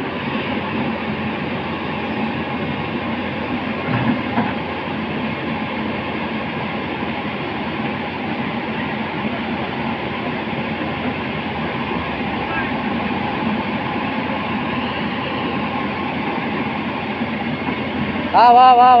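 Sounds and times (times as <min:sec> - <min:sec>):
diesel engine drone: 0:00.0 - 0:19.0
steel tracks clattering: 0:00.0 - 0:19.0.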